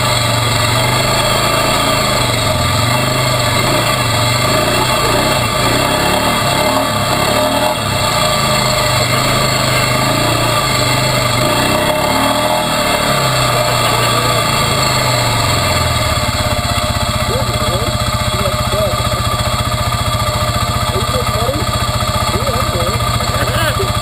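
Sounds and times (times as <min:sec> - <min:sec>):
quad engine running: 0:00.0 - 0:24.0.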